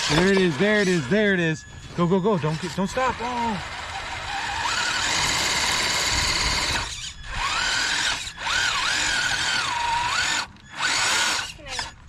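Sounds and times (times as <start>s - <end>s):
electric motor and gearbox whining: 0.0s - 12.0s.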